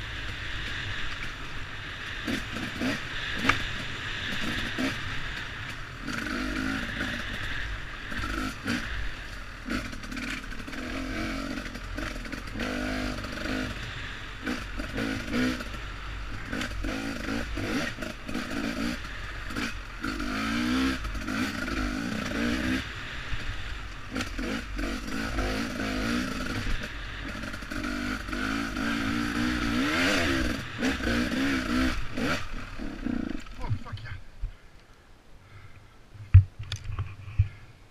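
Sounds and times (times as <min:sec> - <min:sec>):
two-stroke motorcycle engine revving: 0:00.0 - 0:33.9.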